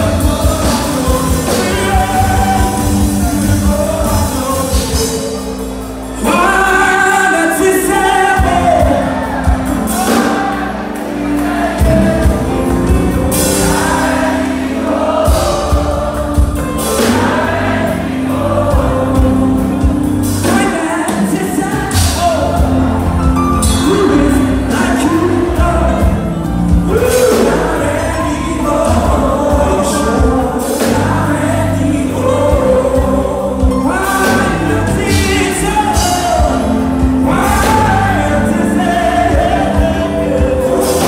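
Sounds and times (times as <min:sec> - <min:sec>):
backing vocalists singing: 0:00.0 - 0:41.0
bass guitar: 0:00.0 - 0:41.0
drums: 0:00.0 - 0:41.0
keyboard: 0:00.0 - 0:41.0
lead singer singing: 0:00.0 - 0:41.0.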